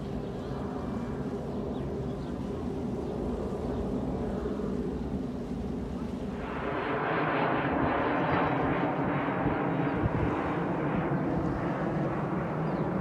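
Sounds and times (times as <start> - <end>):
distant jet engine rumble: 0.0 - 13.0.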